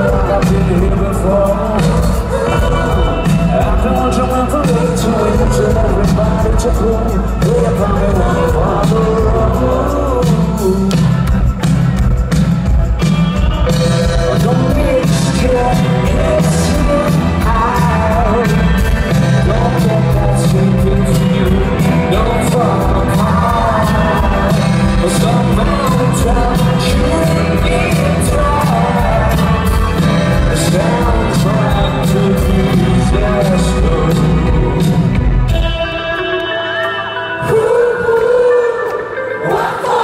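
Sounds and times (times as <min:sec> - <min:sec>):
heavy bass: 0:00.0 - 0:36.3
drums: 0:00.0 - 0:40.0
live rock band: 0:00.0 - 0:40.0.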